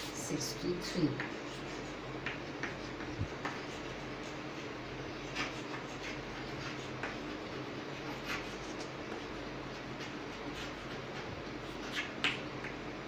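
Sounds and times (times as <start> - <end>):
chalk tapping and scraping: 0.8 - 12.8.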